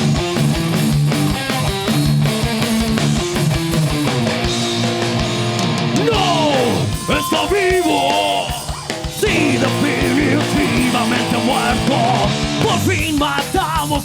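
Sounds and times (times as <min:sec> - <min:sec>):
distorted electric guitars: 0:00.0 - 0:14.0
drums keeping a beat: 0:00.0 - 0:14.0
heavy metal band playing: 0:00.0 - 0:14.0.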